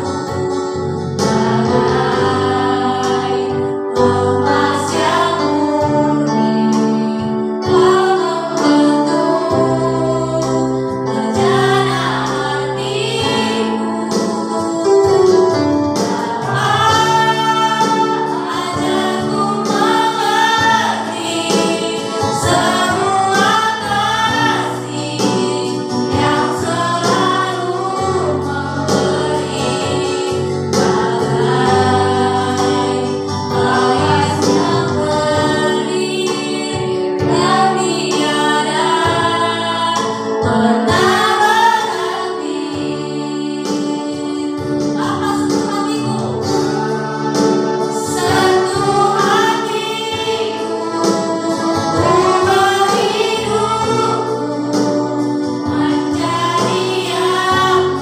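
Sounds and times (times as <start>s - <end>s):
backing music with bass notes: 0.0s - 58.0s
women singing worship song: 0.0s - 58.0s.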